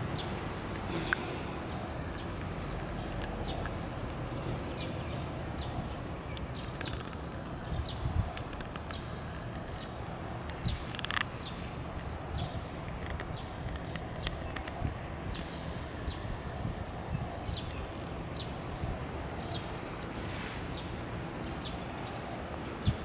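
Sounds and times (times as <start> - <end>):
small bird chirping: 4.4 - 23.0.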